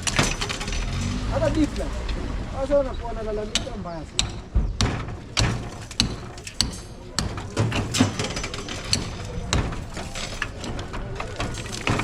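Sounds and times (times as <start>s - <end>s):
hammering and breaking masonry: 0.0s - 12.0s.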